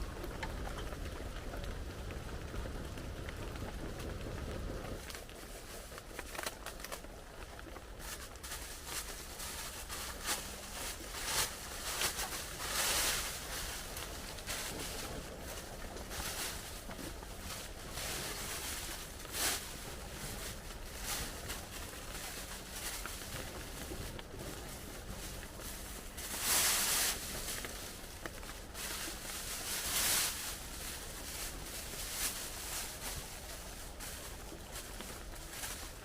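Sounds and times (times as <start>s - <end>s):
rustling and crackling: 0.0s - 36.0s
steady hiss: 0.0s - 36.0s.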